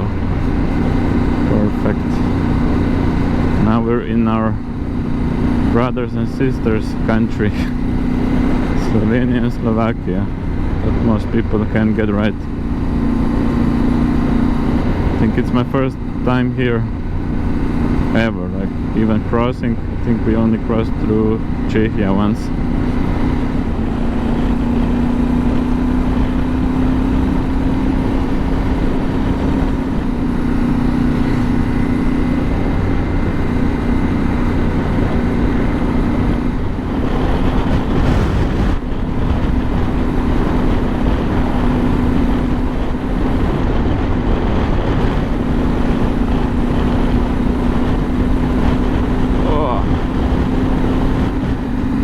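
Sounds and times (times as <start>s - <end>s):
motorcycle engine cruising: 0.0s - 52.0s
wind and road noise: 0.0s - 52.0s.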